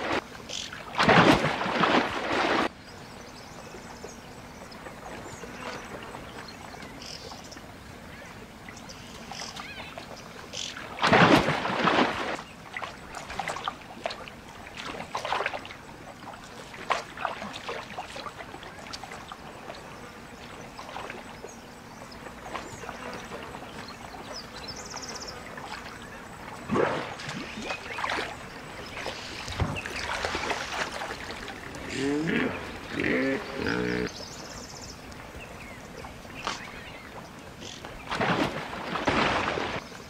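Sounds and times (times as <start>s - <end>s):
outdoor background: 0.0s - 40.0s.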